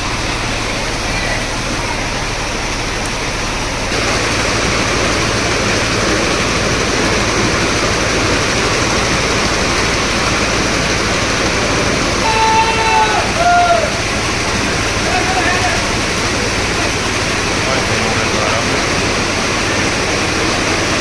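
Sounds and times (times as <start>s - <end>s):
rainwater rushing: 0.0s - 21.0s.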